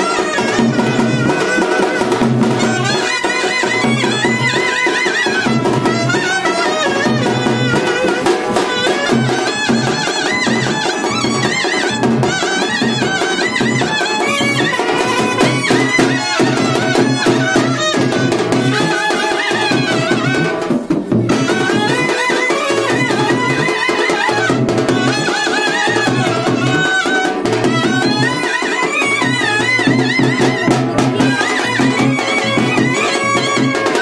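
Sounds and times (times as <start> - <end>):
clarinet melody: 0.0 - 34.0
percussion accompaniment: 0.0 - 34.0.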